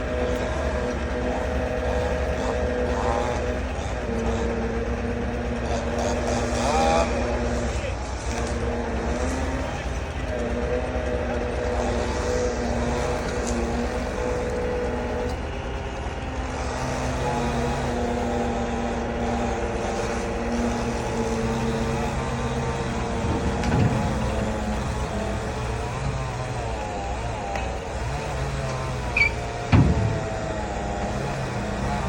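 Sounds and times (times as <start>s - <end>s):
heavy truck engine under load: 0.0s - 32.0s.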